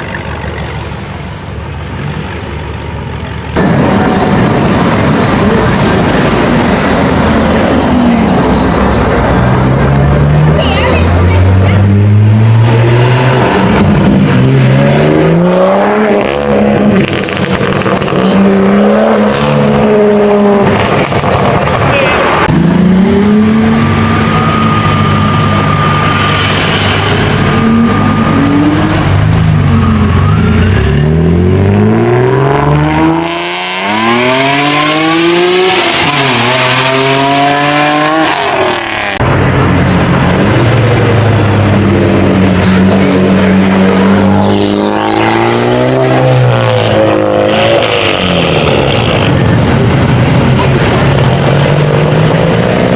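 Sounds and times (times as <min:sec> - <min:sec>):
car engines revving and accelerating: 0:00.0 - 0:52.9.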